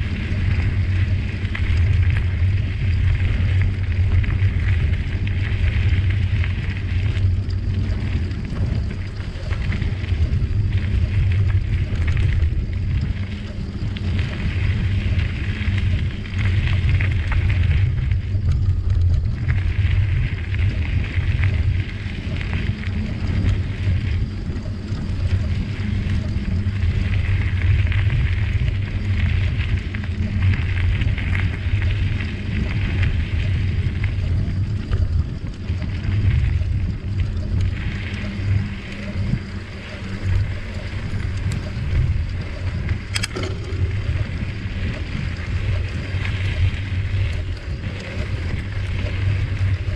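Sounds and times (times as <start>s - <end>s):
bicycle tyres rolling on ground: 0.0s - 49.9s
wind buffeting microphone: 0.0s - 49.9s.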